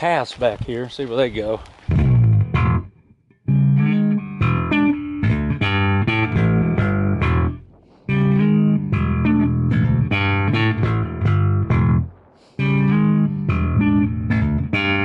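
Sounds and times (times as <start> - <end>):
bass line: 1.9 - 15.0
plucked guitar: 1.9 - 15.0.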